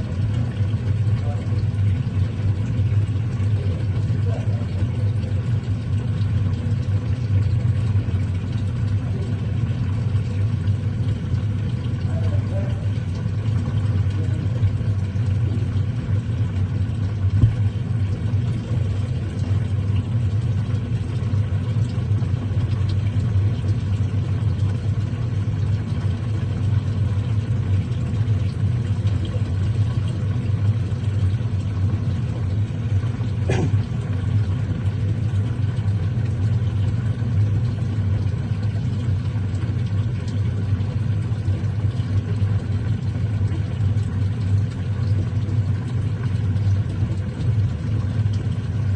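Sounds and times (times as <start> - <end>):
washing machine humming: 0.0 - 48.9.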